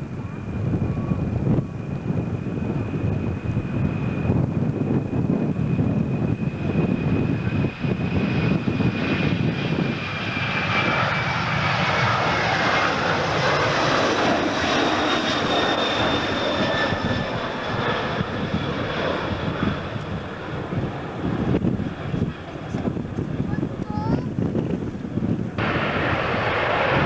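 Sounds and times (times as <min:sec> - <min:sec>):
airliner engine whine: 0:00.0 - 0:27.0.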